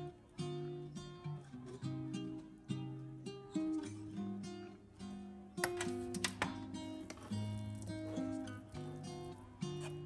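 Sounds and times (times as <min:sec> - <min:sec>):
acoustic guitar plucked notes: 0:00.0 - 0:10.0.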